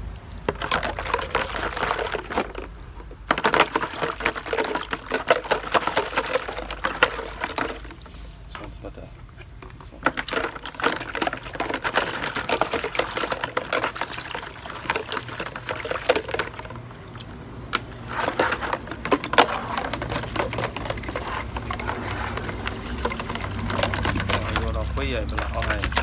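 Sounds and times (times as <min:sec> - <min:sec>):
plastic clicking and knocking: 0:00.3 - 0:08.8, 0:09.4 - 0:16.8, 0:17.7 - 0:26.0
water splashing in basin: 0:00.4 - 0:26.0.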